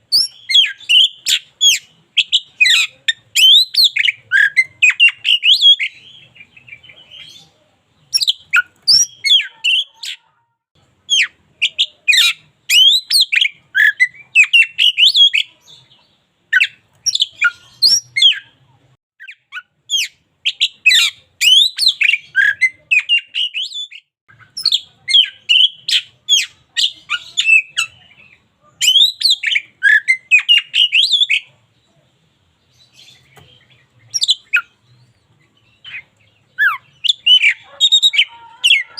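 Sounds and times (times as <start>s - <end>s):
bird singing whistles and chirps: 0.1s - 10.2s, 11.1s - 15.8s, 16.6s - 18.5s, 19.2s - 31.5s, 32.8s - 38.9s.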